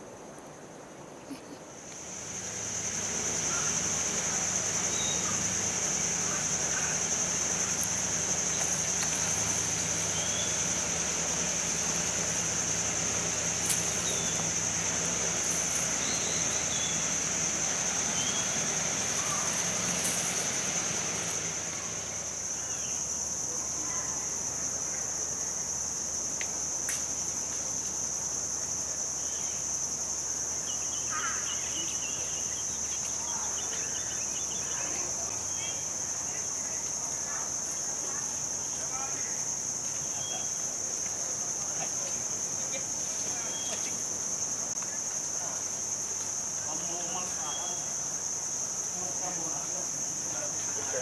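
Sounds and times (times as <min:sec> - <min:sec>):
insect chorus drone: 0:00.0 - 0:51.0.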